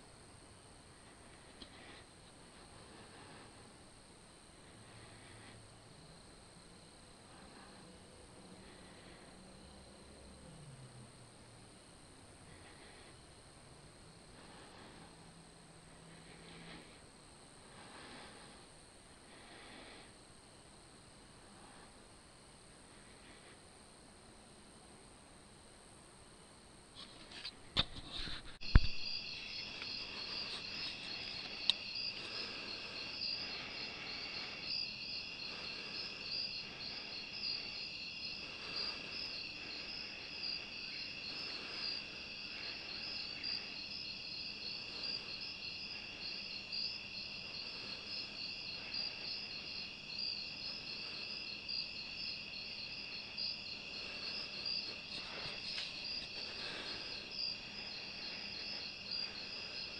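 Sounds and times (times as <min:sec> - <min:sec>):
crickets and insects chirring: 0:00.0 - 0:59.9.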